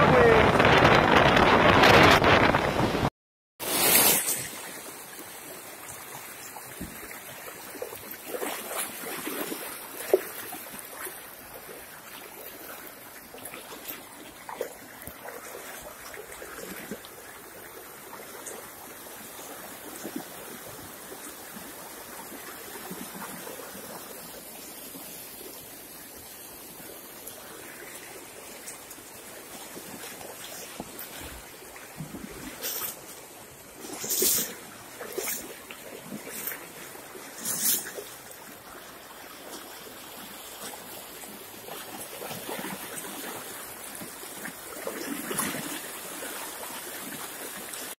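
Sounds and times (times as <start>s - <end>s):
water rushing: 0.0s - 47.9s
water splashing: 0.0s - 47.9s.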